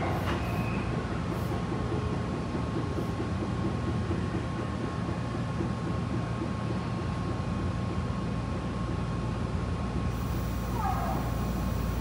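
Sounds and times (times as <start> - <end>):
train wheel-on-rail rumble: 0.0 - 12.0.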